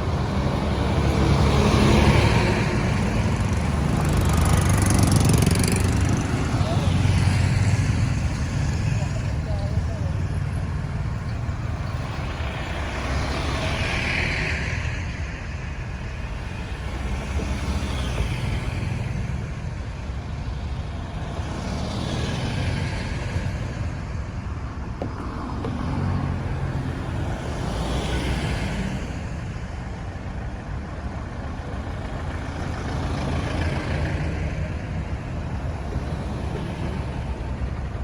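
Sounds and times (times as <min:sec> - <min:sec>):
engines rumbling in traffic: 0:00.0 - 0:38.0
vehicles passing: 0:00.0 - 0:38.0.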